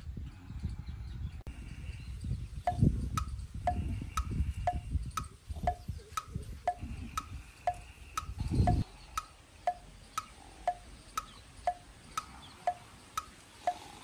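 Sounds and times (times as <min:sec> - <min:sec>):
clock ticking: 0:02.7 - 0:14.0.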